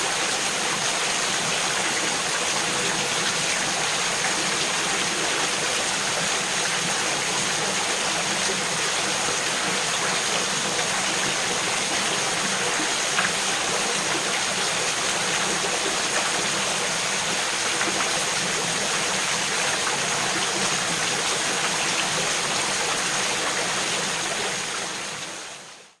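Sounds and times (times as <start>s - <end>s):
creek flowing over small falls: 0.0s - 26.0s.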